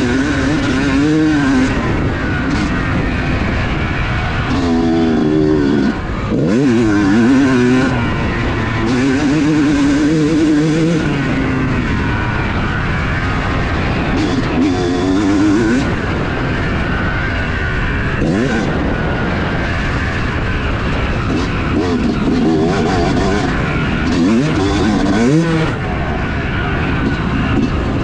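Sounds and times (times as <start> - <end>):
two-stroke motorcycle engine revving: 0.0 - 28.0
wind noise: 0.0 - 28.0.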